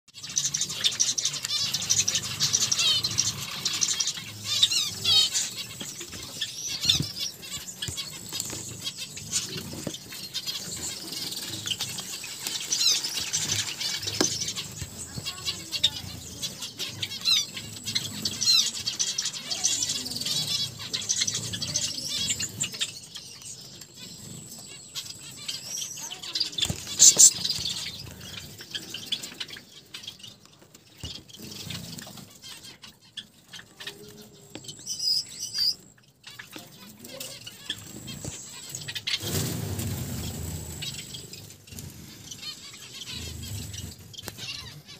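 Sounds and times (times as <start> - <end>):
finches chirping: 0.1 - 44.9.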